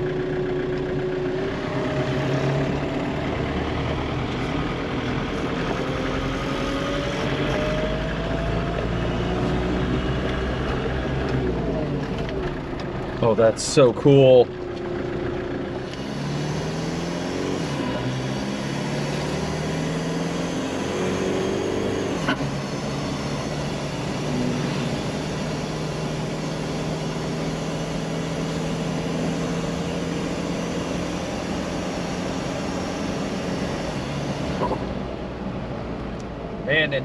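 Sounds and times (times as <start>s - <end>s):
diesel engine while driving: 0.0s - 37.0s.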